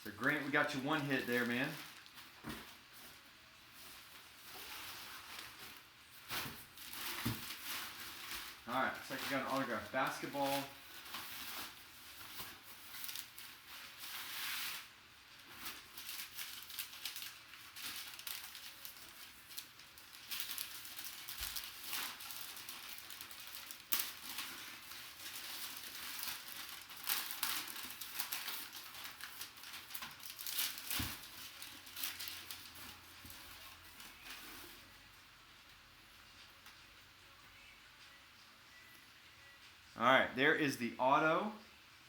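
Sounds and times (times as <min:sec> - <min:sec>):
packaging crinkling and tearing: 0:00.1 - 0:03.3, 0:04.0 - 0:34.8.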